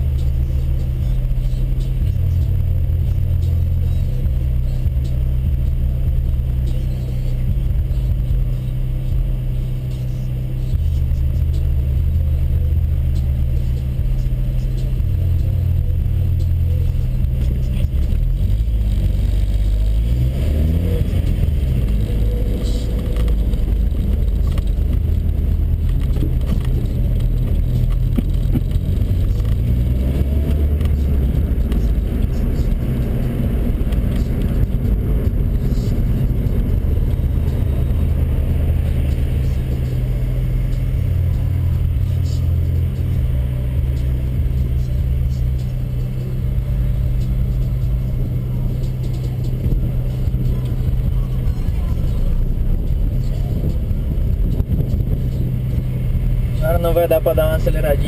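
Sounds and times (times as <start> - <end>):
pickup engine idling and revving: 0.0 - 58.0
road noise: 0.0 - 58.0.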